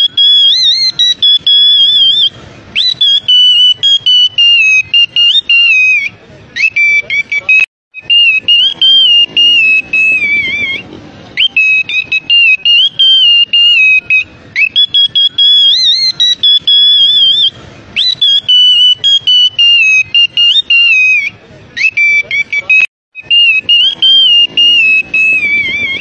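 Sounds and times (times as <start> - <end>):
parrot whistling a tune: 0.0 - 10.8, 11.4 - 26.0.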